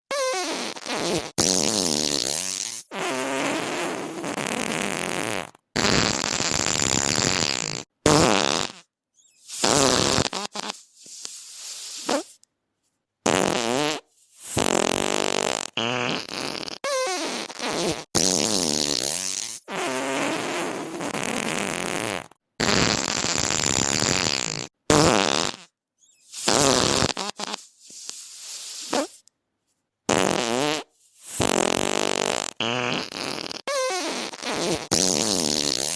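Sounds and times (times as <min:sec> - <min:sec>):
fart sound effects: 0:00.1 - 0:12.4, 0:13.2 - 0:25.7, 0:26.3 - 0:29.2, 0:30.1 - 0:35.9.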